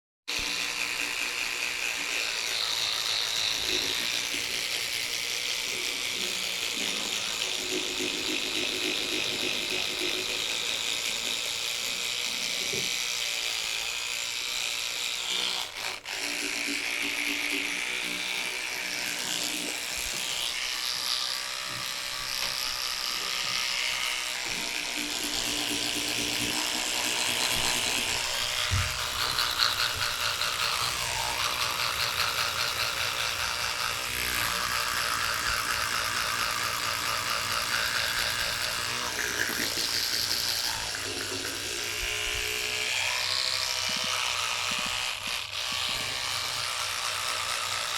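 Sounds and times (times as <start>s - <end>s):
electric toothbrush buzzing: 0.3s - 47.9s.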